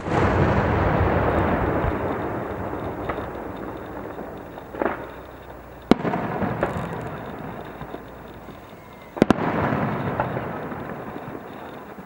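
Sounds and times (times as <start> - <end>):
fireworks bursting with bangs: 0.0 - 12.0
rumbling echo: 0.0 - 12.0.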